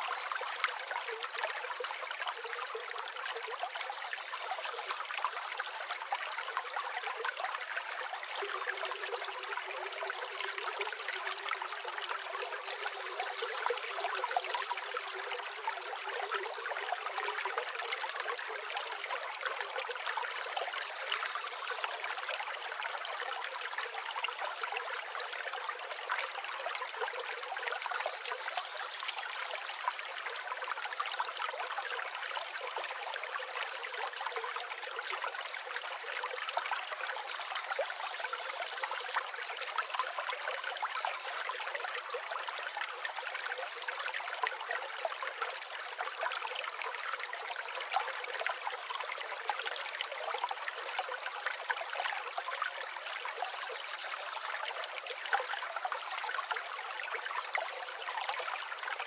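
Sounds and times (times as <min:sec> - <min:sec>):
river flowing and trickling: 0:00.0 - 0:59.0.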